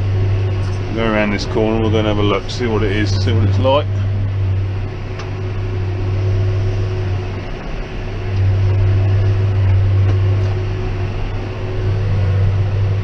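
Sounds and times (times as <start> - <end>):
tractor engine drone: 0.0 - 13.0.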